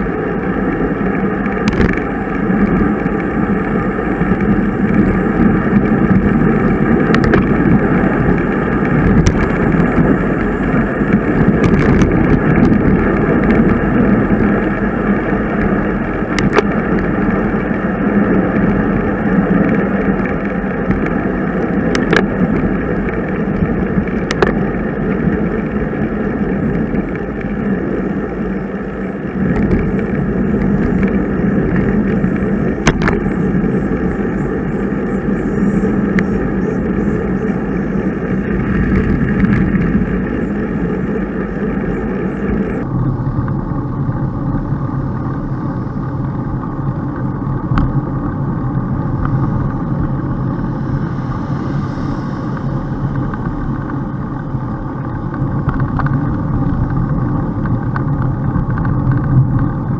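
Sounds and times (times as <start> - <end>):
bicycle road noise: 0.0 - 59.9
wind noise: 0.0 - 59.9.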